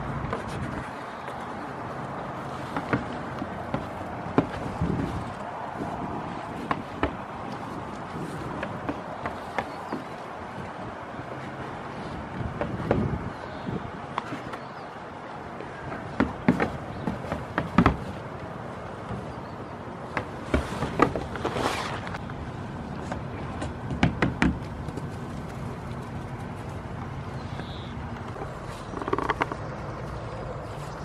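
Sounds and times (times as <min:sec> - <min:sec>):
hooves clattering on plywood: 0:00.0 - 0:14.9, 0:15.6 - 0:22.2, 0:23.0 - 0:30.3.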